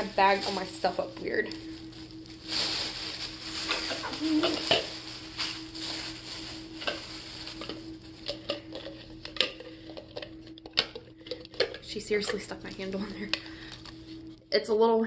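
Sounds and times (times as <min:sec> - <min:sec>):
plastic bag rustling: 0:00.0 - 0:14.3.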